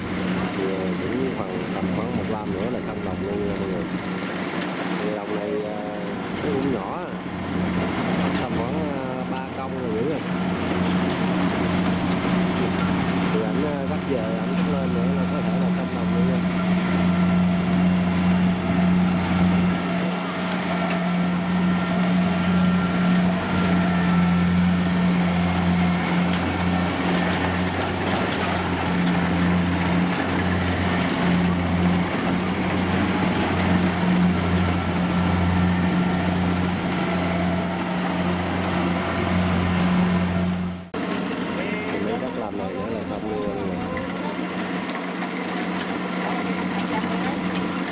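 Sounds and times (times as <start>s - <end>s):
combine harvester engine humming: 0.0s - 47.9s.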